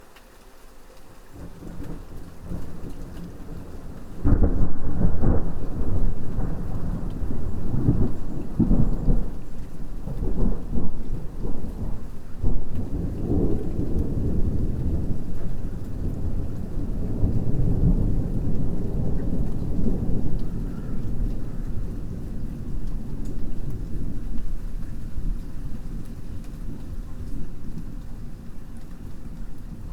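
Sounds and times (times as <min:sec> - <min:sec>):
rain: 0:00.0 - 0:29.9
deep rolling thunder: 0:01.4 - 0:29.9
thunderclap: 0:01.7 - 0:28.2.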